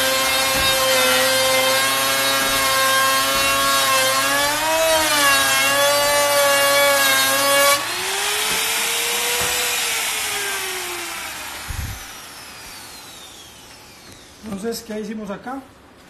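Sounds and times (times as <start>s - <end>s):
router cutting wood: 0.0s - 14.6s.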